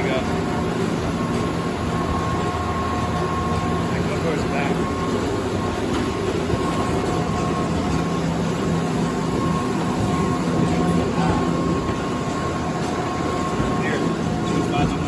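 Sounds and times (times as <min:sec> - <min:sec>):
chairlift machinery humming: 0:00.0 - 0:15.0
high mechanical whine: 0:00.0 - 0:15.0.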